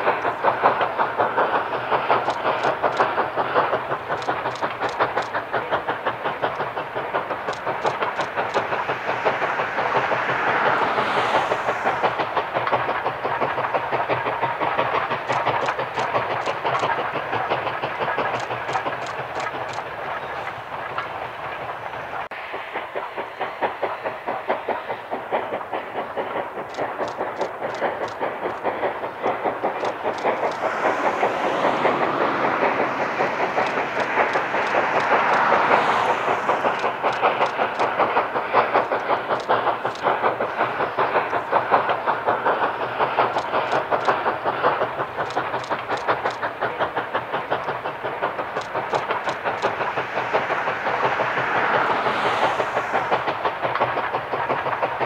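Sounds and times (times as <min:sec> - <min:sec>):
steam locomotive chuffing: 0:00.0 - 0:55.0
wheels clicking over rail joints: 0:00.0 - 0:55.0.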